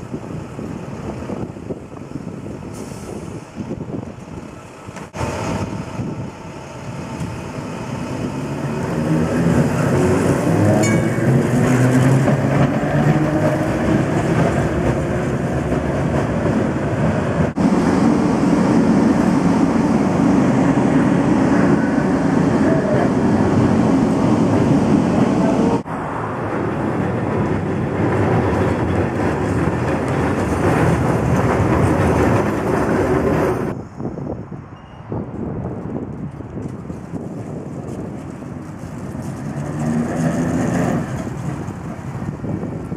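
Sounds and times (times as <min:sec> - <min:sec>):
steel wheels rumbling on rails: 0:00.0 - 0:34.4, 0:35.2 - 0:42.9.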